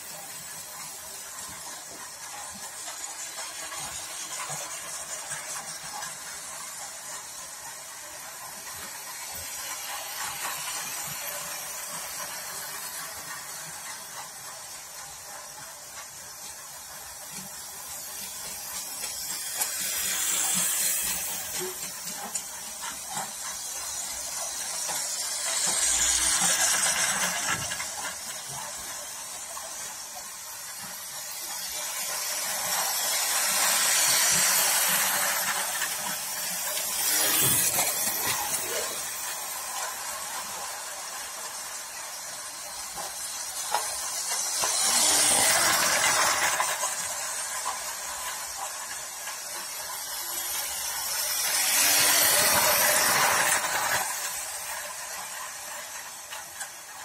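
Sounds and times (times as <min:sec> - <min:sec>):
toy train motors whirring: 0:00.0 - 0:57.0.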